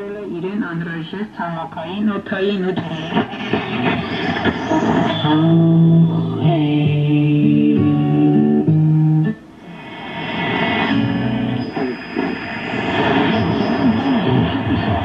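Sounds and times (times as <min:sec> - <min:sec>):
noisy warbling radio signal: 0:00.0 - 0:06.5, 0:09.4 - 0:15.0
stepping musical radio tones: 0:00.0 - 0:07.0, 0:09.3 - 0:15.0.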